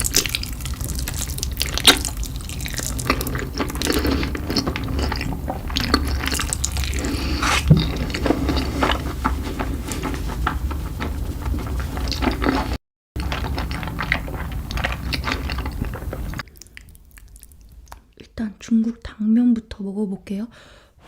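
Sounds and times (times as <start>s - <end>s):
person chewing and slurping noodles: 0.0s - 18.0s.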